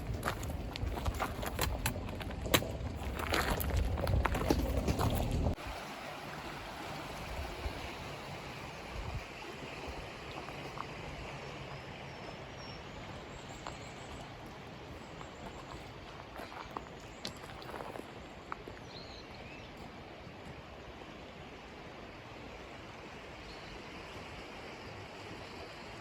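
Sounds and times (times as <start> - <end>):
flowing water: 0.0 - 26.0.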